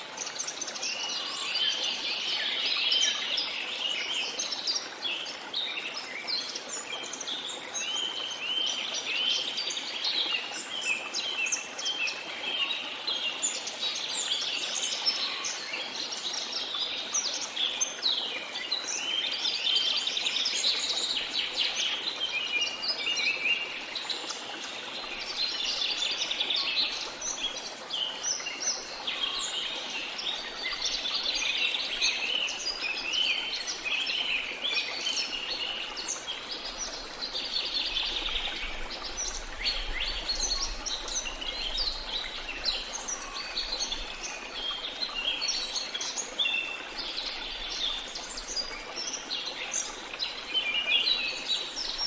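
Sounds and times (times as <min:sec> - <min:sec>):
small birds chirping chorus: 0:00.0 - 0:52.0.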